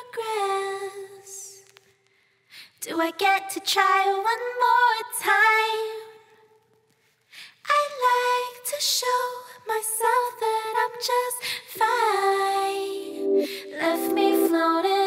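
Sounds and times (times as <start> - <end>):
woman singing a song: 0.0 - 1.7, 2.7 - 6.3, 7.5 - 15.0.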